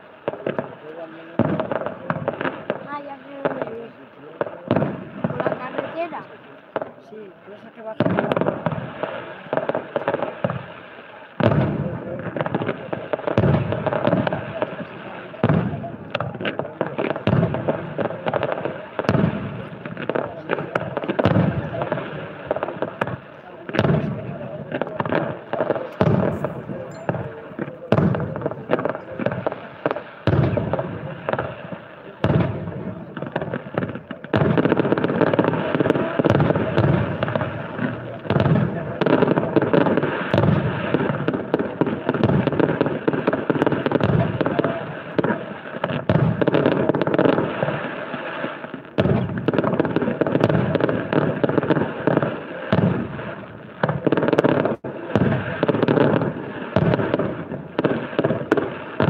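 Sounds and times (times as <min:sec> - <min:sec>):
firework pops and crackles: 0:00.0 - 0:59.0
firework shells booming: 0:00.0 - 0:59.0.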